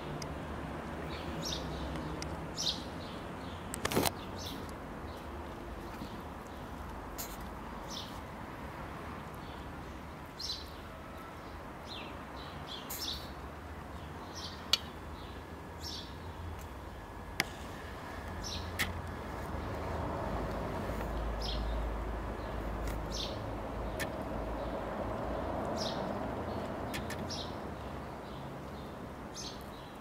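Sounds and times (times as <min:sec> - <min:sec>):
small birds chirping: 0:00.9 - 0:08.4, 0:09.1 - 0:30.0.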